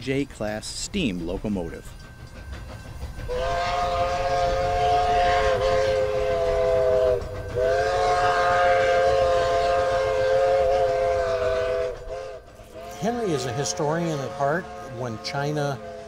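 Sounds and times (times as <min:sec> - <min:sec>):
train rumble: 0:00.0 - 0:16.0
steam locomotive whistle: 0:02.6 - 0:16.0.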